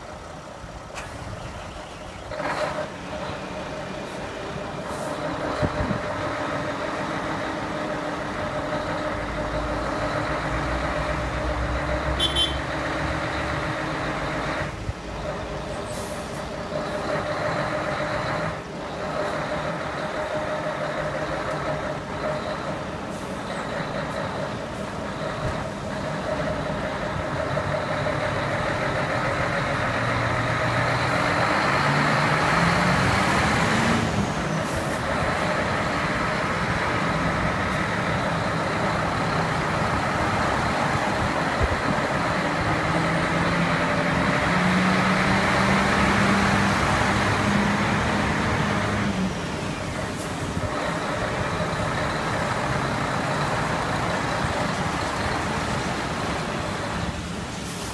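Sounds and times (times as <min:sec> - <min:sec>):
diesel truck engines running: 0:00.0 - 0:57.9.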